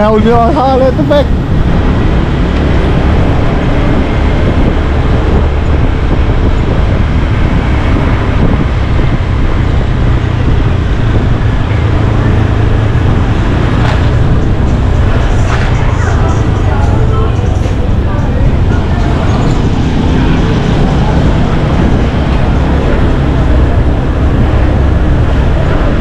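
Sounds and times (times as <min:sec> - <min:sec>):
road traffic: 0:00.0 - 0:26.0
scooter engine hum: 0:00.0 - 0:26.0
wind rushing over microphone: 0:00.0 - 0:26.0.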